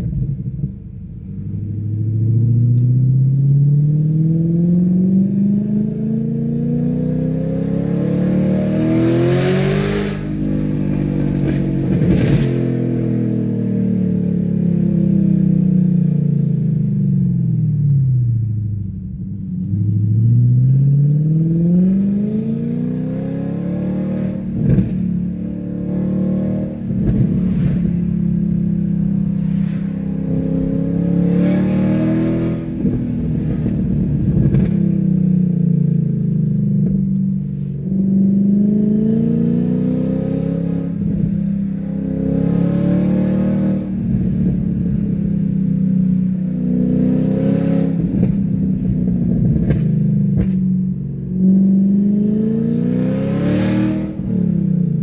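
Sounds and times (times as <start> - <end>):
car engine revving: 0.0 - 17.6, 19.1 - 55.0.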